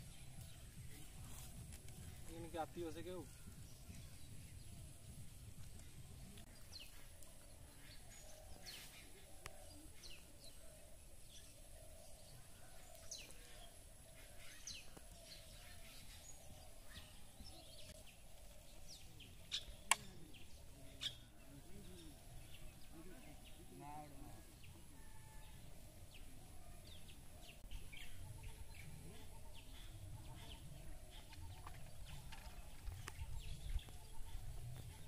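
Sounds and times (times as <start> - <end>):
low steady background noise: 0.0 - 35.0.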